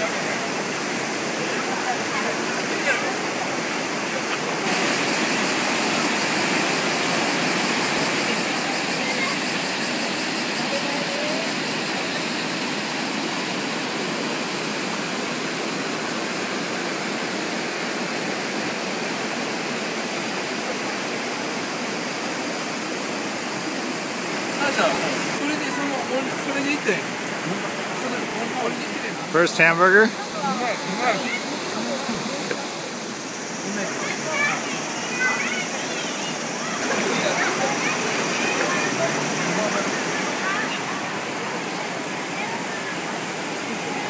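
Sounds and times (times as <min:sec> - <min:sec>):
river rushing over rocks: 0:00.0 - 0:44.0.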